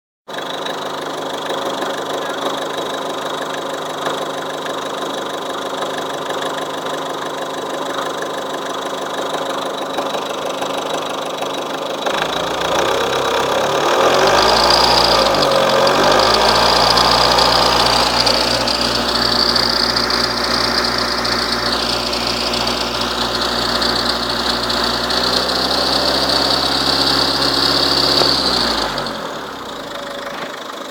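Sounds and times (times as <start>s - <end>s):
car engine running: 0.3s - 30.9s.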